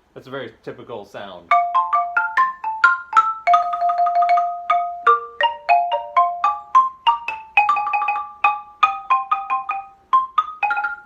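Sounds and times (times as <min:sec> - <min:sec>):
xylophone ragtime phrase: 0:01.4 - 0:11.0.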